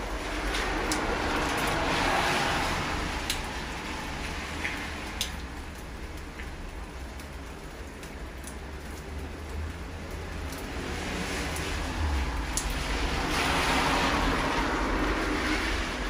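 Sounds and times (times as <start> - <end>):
steady rain: 0.0 - 16.0
vehicle tyres hissing on wet street: 0.0 - 16.0
raindrop ticks: 0.2 - 15.6.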